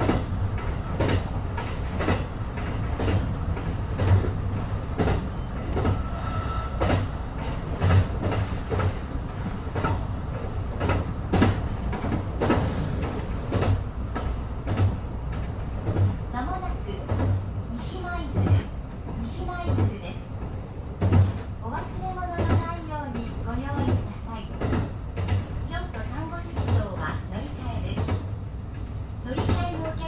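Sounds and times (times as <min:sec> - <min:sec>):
rail-joint clacks: 0:00.0 - 0:30.0
train rumble: 0:00.0 - 0:30.0.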